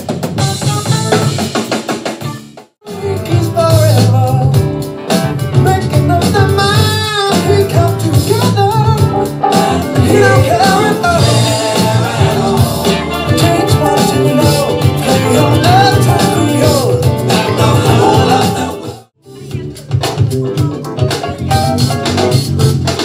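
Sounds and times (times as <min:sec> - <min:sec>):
funk music with singing: 0:00.0 - 0:23.0.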